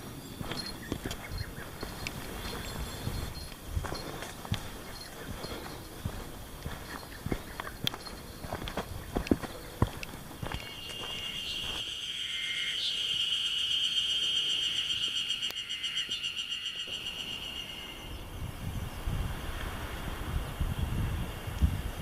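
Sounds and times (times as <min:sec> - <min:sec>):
cicada buzzing: 0:00.4 - 0:18.4.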